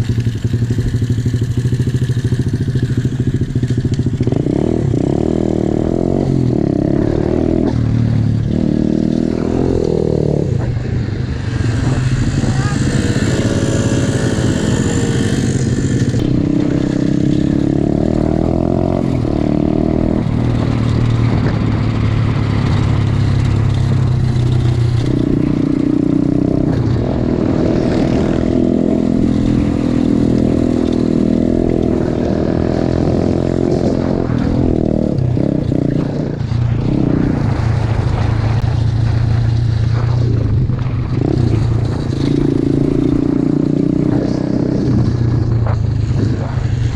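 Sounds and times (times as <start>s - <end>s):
bike rattling over rough ground: 0.0s - 46.9s
small motorbike engine running: 0.0s - 46.9s.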